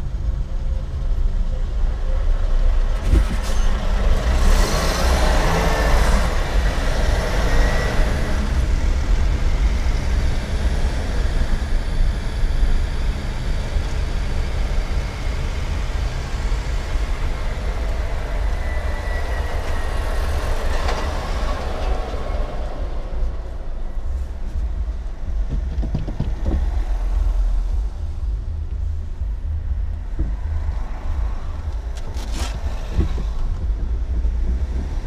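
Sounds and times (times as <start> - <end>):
car interior road rumble: 0.0 - 35.0.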